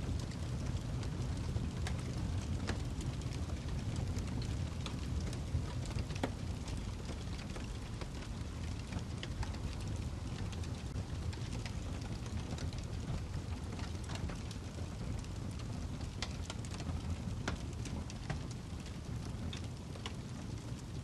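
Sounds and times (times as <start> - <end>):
burning log crackling and popping: 0.0 - 21.0
wood fire rumbling: 0.0 - 21.0.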